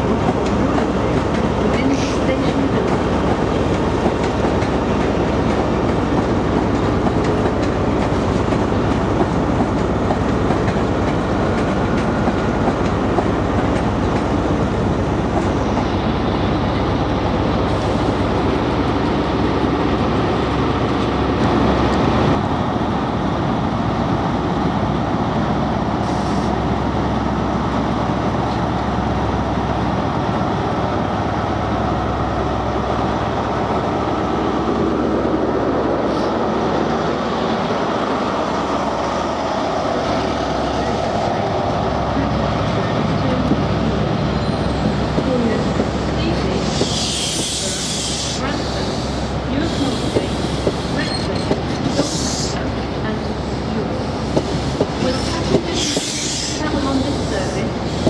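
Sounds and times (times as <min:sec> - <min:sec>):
electric train over rail joints: 0:00.0 - 0:58.0.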